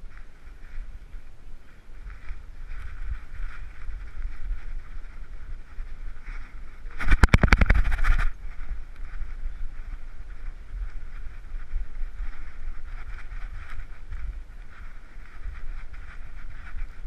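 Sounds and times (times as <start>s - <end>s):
camera rubbing and rumble: 0.0s - 17.0s.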